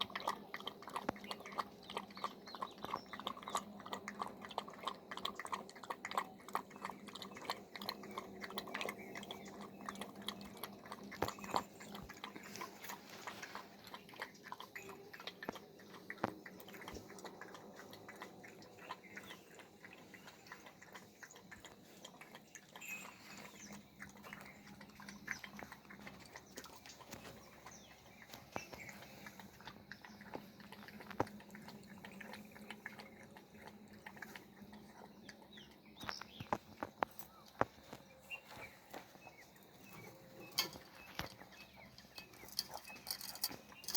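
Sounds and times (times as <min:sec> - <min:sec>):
puppy lapping milk: 0:00.0 - 0:43.9.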